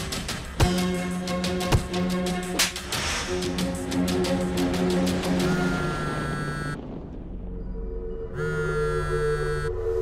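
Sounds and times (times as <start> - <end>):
dramatic film score: 0.0 - 10.0.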